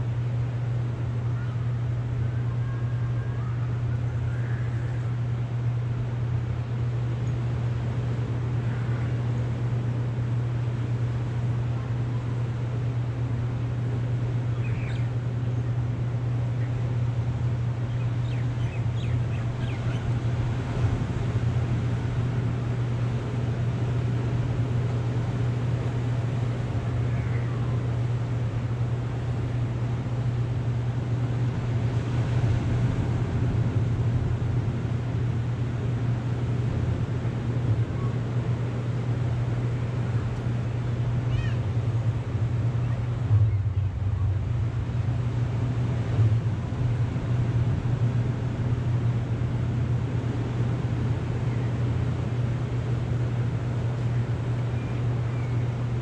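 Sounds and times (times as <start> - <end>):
constant rushing noise: 0.0 - 56.0
low mechanical hum: 0.0 - 56.0
wind: 0.0 - 56.0
distant surf on rocky shore: 3.7 - 56.0.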